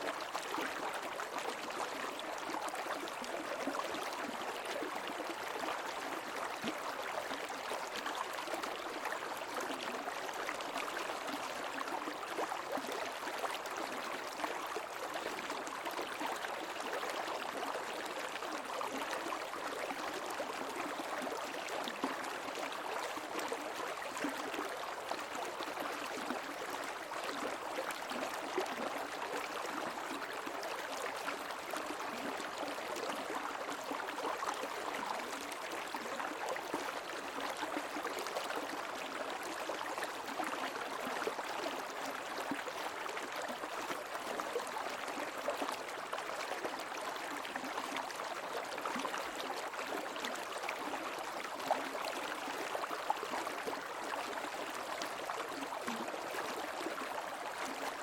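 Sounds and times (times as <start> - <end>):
creek water babbling over stones: 0.0 - 58.0.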